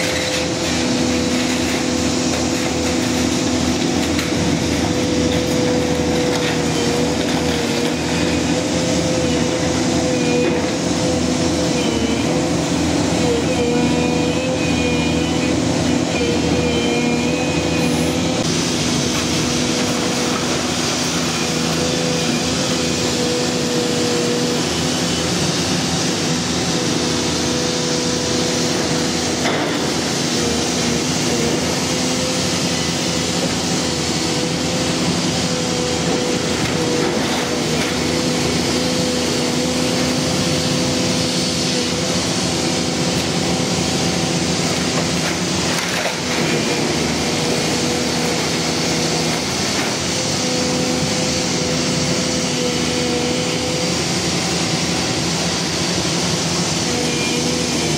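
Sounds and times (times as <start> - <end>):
excavator engine and hydraulics humming: 0.0 - 57.9.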